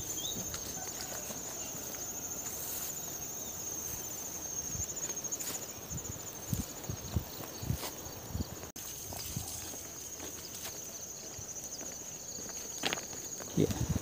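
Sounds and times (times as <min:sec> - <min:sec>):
footsteps on trail: 0:00.0 - 0:14.0
insects trilling: 0:00.0 - 0:14.0.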